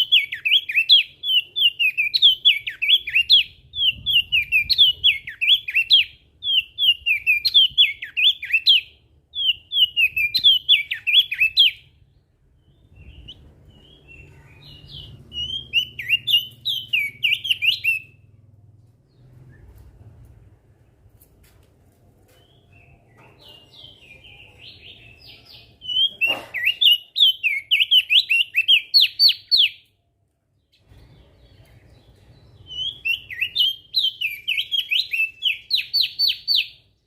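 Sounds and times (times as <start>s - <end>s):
bird chattering song: 0.0s - 12.0s, 12.7s - 18.3s, 22.4s - 29.9s, 30.7s - 37.0s.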